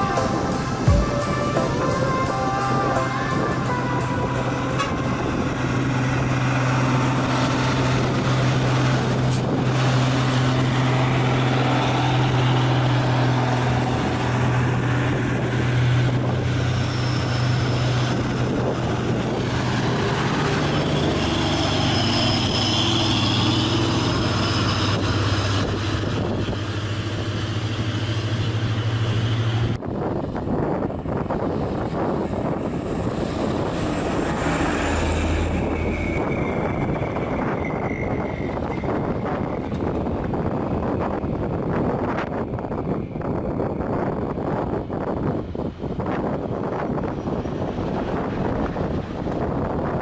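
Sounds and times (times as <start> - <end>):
truck diesel engine straining: 0.0 - 50.0.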